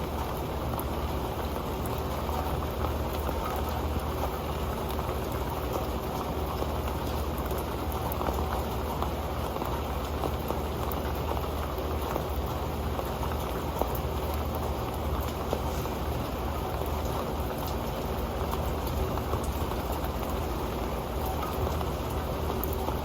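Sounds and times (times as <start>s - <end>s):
rain pattering on a metal pan: 0.0s - 23.0s.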